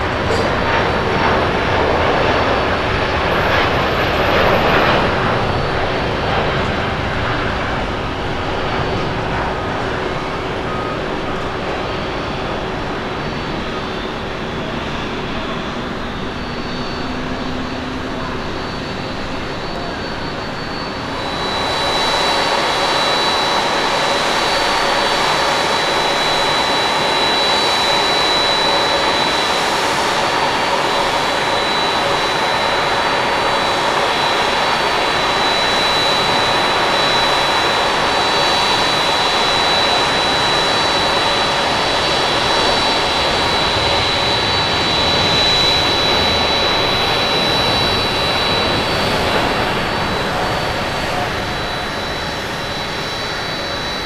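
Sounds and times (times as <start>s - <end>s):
high steady whine: 0.0s - 54.0s
jet engine roar: 0.0s - 54.0s.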